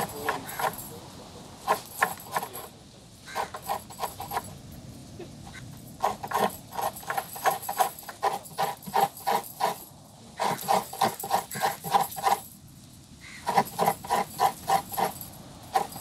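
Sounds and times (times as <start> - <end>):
coconut being scraped: 0.0 - 1.0, 1.6 - 2.7, 3.3 - 4.6, 5.5 - 12.4, 13.4 - 16.0.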